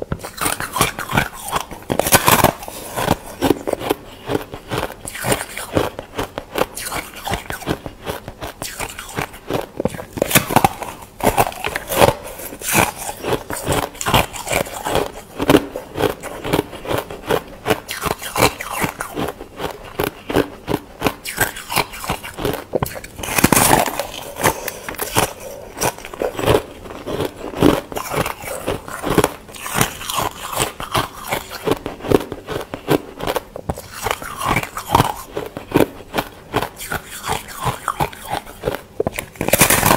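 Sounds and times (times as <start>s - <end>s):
frost being bitten and chewed: 0.1s - 39.9s.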